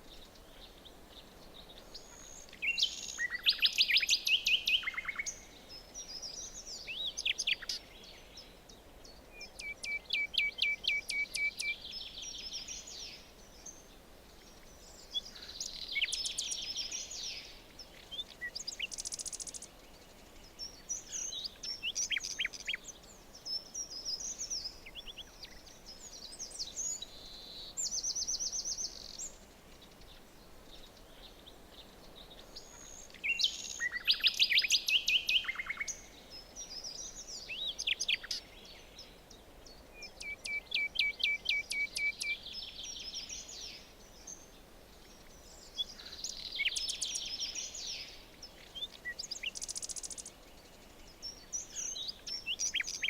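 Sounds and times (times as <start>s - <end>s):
faint background hiss: 0.0s - 53.0s
songbirds singing: 0.0s - 53.0s.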